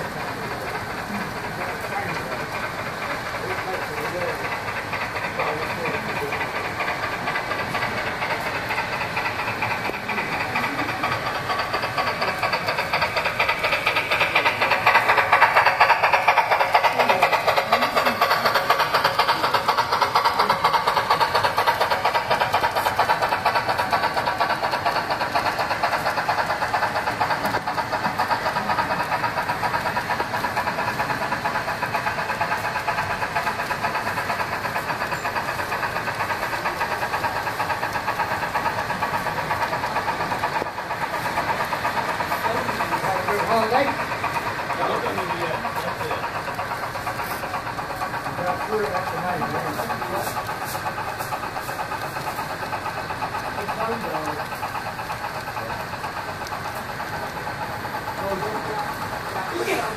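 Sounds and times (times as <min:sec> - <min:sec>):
model train wheels rattling: 0:00.0 - 0:59.9.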